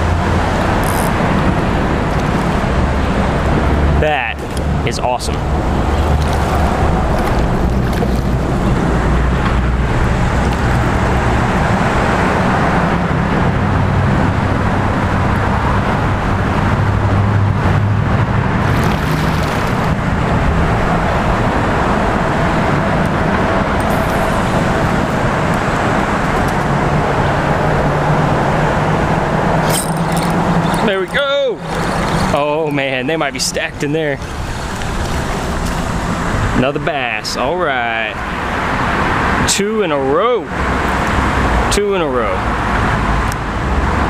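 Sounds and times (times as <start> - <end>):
heavy road traffic drone: 0.0 - 44.0.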